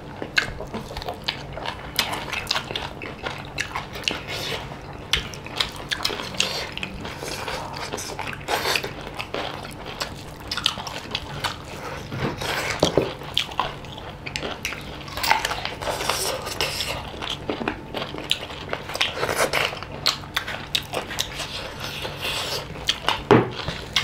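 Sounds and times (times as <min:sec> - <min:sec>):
chewing and biting: 0:00.2 - 0:24.0.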